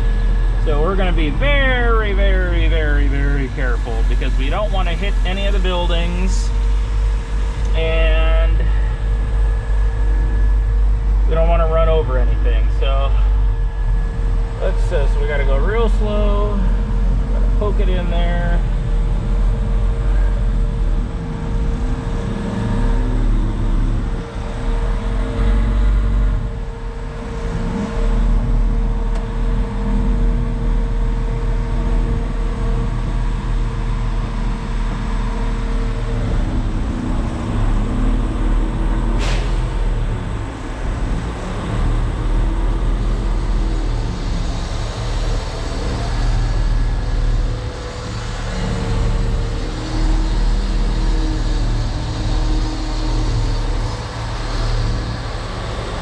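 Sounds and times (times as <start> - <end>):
diesel engine low rumble: 0.0 - 56.0
steady whine: 0.0 - 56.0.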